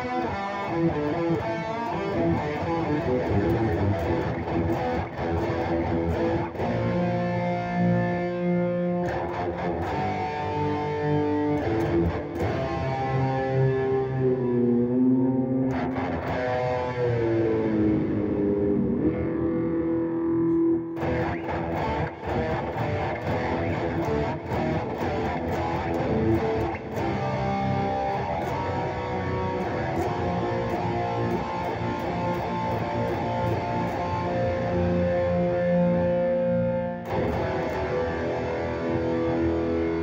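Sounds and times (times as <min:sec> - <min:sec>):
electric guitar playing: 0:00.0 - 0:40.0.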